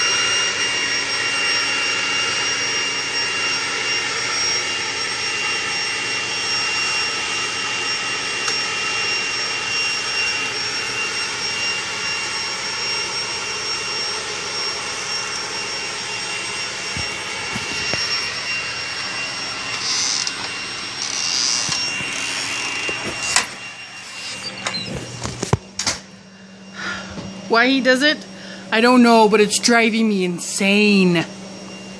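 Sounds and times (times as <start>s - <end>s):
leaf blower running: 0.0s - 31.9s.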